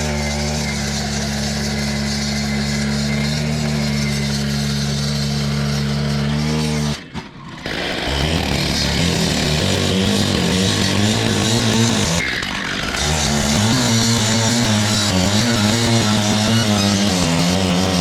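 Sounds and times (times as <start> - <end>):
blade cutting asphalt hiss: 0.0 - 18.0
cut-off saw running: 0.0 - 18.0.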